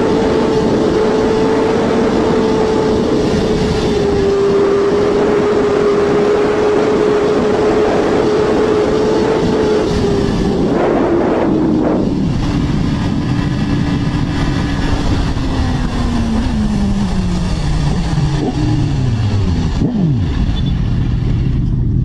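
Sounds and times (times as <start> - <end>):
motorcycle passing by: 0.0 - 21.9
racing motorcycle engines: 0.0 - 22.0.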